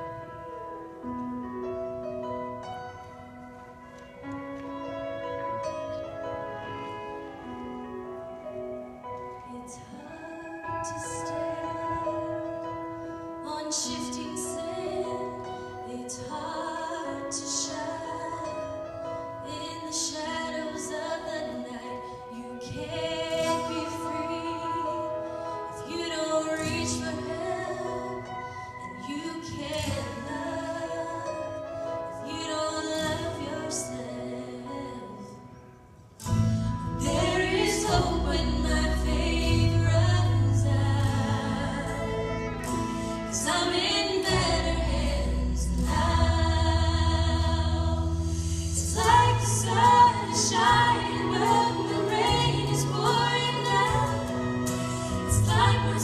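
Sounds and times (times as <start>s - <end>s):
women singing gospel: 9.4s - 35.6s, 36.8s - 56.0s.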